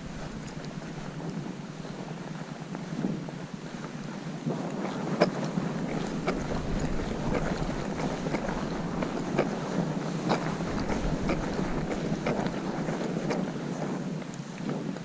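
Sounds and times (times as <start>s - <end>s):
footsteps crunching in snow: 0.0s - 15.0s
wind rumbling on microphone: 0.0s - 15.0s.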